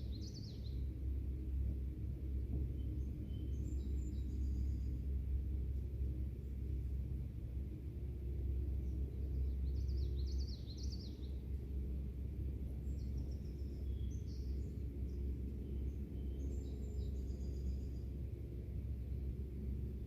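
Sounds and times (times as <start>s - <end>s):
wild birds chirping: 0.0s - 1.6s, 2.6s - 6.8s, 8.2s - 20.0s
low outdoor rumble: 0.0s - 20.0s.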